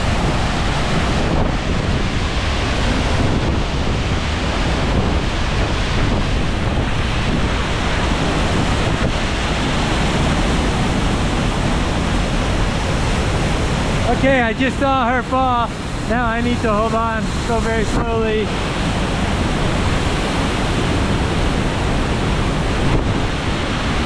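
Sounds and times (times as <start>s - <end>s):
waterfall rushing: 0.0s - 24.0s
wind buffeting microphone: 0.0s - 24.0s.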